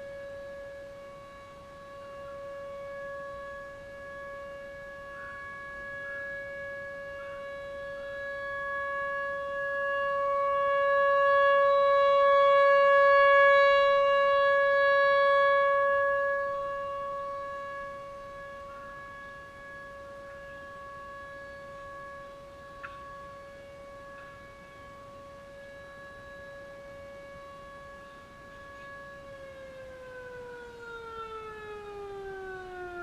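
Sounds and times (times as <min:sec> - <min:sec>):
steady electronic siren tone: 0:00.0 - 0:33.0.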